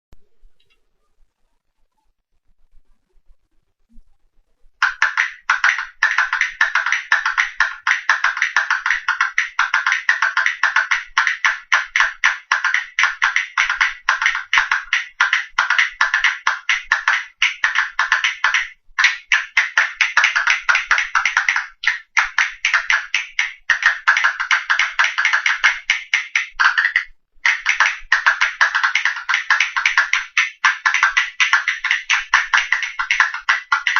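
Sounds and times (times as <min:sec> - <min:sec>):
castanets clicking: 0:04.8 - 0:33.9.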